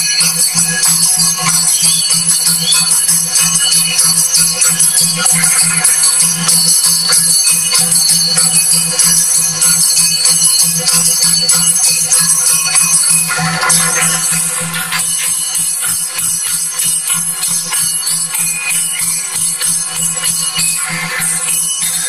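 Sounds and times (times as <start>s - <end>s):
drums beating fast rhythm: 0.0s - 22.0s
jingling cymbals and ankle bells: 0.0s - 22.0s.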